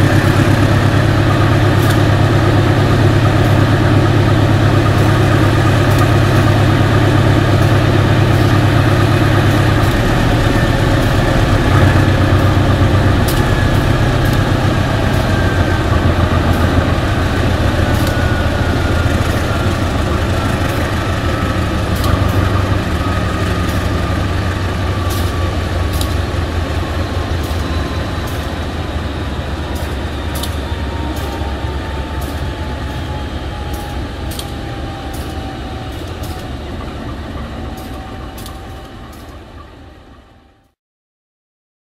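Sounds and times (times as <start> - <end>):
whine sliding down in pitch: 0.0 - 40.6
diesel locomotive engine running: 0.0 - 40.8.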